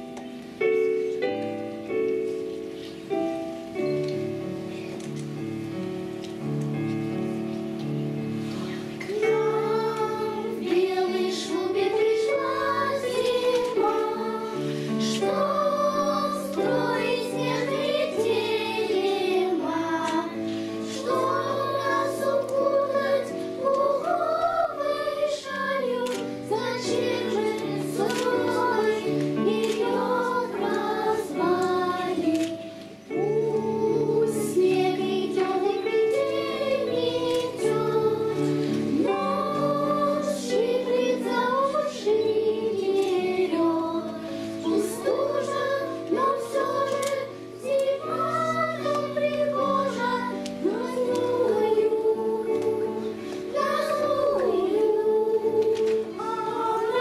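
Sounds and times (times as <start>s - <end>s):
children's choir singing: 0.0s - 57.0s
instrumental accompaniment: 0.0s - 57.0s.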